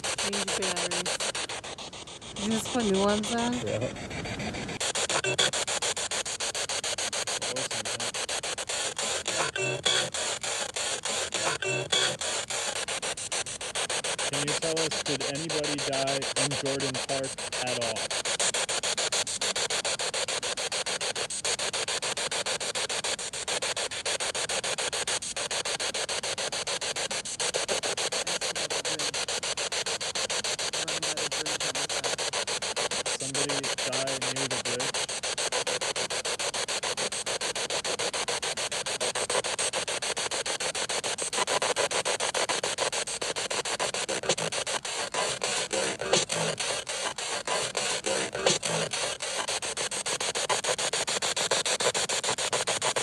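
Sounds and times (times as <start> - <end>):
radio static pulsing: 0.0 - 53.0
snatch of radio sound: 0.0 - 53.0.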